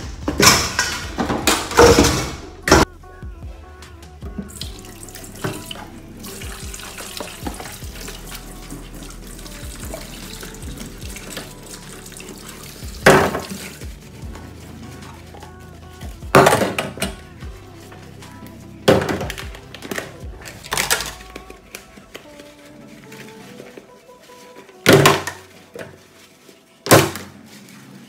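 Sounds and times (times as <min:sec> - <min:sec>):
plastic cups being scrubbed: 0:04.4 - 0:28.0.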